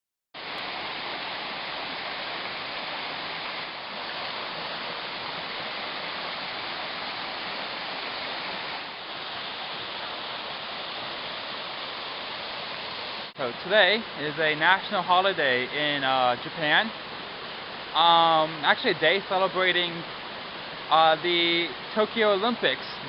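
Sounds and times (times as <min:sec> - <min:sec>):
waterfall rushing: 0:00.4 - 0:23.0.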